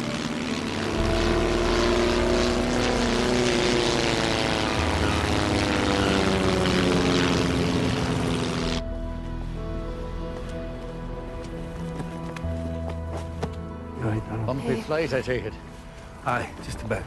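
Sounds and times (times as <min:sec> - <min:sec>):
propeller aircraft engines: 0:00.0 - 0:13.4, 0:14.2 - 0:17.0.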